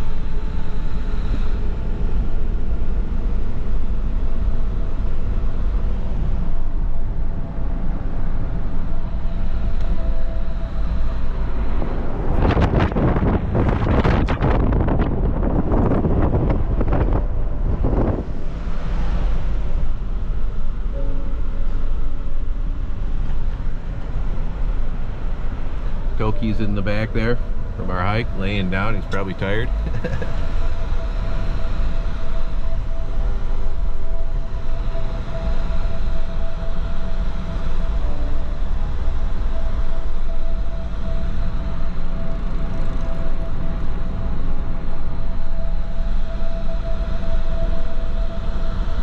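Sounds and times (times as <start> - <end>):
faint steady hum: 0.0 - 49.0
vehicle rumbling through snow: 0.0 - 49.0.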